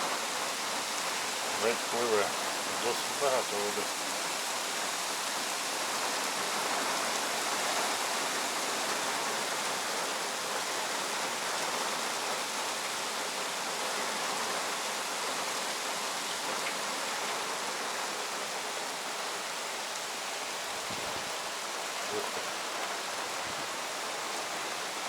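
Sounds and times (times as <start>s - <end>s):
rain and running water: 0.0s - 25.0s.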